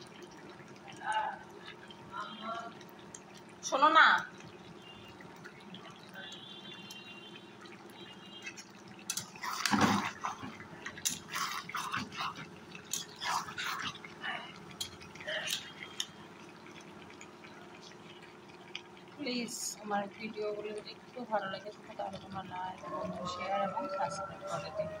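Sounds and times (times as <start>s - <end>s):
curry simmering with wet pops: 0.0s - 25.0s
low steady hum: 0.0s - 25.0s.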